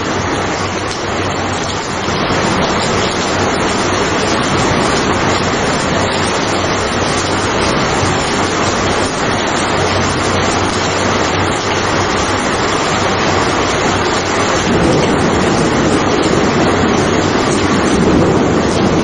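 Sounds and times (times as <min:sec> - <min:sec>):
deep rumble: 0:00.0 - 0:19.0
heavy rain hiss: 0:00.0 - 0:19.0.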